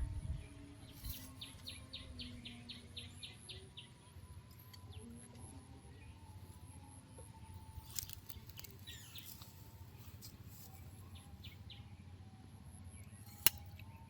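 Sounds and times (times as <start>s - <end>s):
bird chirping: 0.2s - 6.5s, 7.2s - 14.0s.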